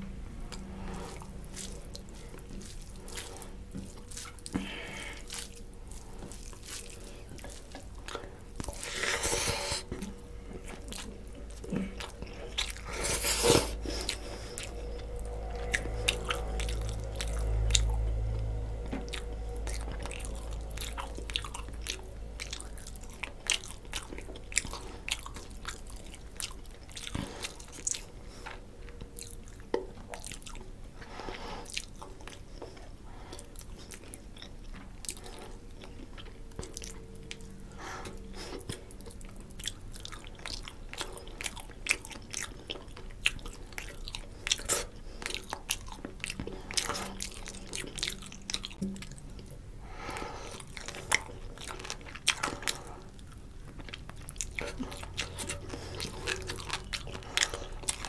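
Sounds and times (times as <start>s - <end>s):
man chewing wetly: 0.0s - 58.0s.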